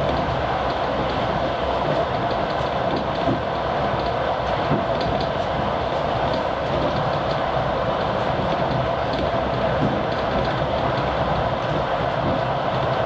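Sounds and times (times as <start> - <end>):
diesel locomotive engine: 0.0 - 13.0
train wheels rumbling on rails: 0.0 - 13.0.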